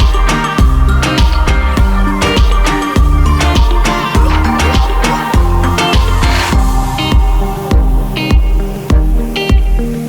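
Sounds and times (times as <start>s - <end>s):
heavy bass beat: 0.0s - 10.0s
sustained melodic notes: 0.0s - 10.0s.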